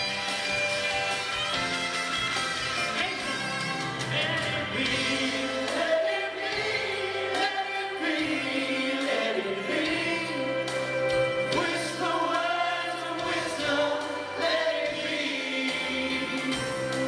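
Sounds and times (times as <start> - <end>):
band accompaniment: 0.0 - 17.0
choir singing held harmonies: 0.0 - 17.0.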